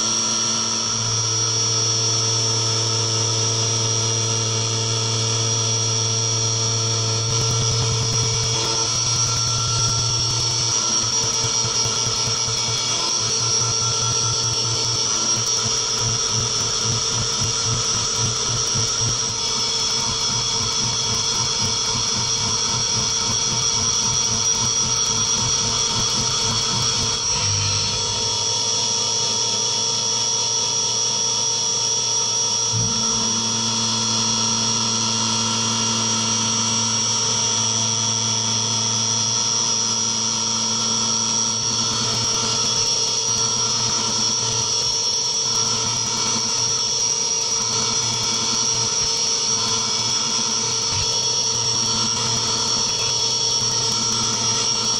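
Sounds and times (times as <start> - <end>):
milling machine whining: 0.0 - 31.0, 32.5 - 54.9.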